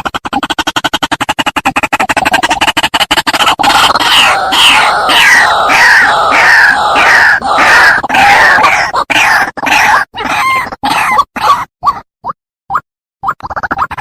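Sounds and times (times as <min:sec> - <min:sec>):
bird harsh croaking calls: 0:00.4 - 0:11.7.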